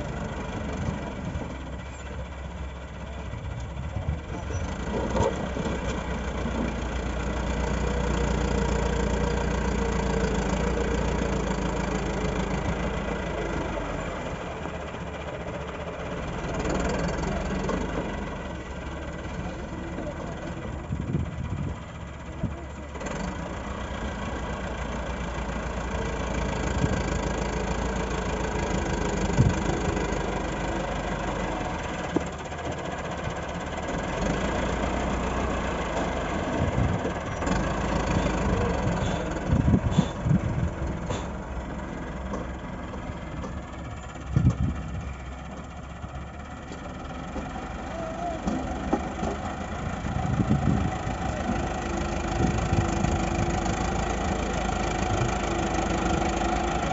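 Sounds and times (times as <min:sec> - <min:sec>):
heavy machinery engine running: 0:00.0 - 0:56.9.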